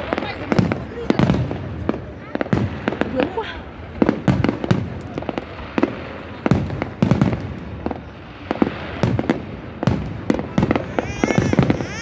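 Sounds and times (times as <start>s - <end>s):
fireworks bangs with rumbling echo: 0.0s - 12.0s.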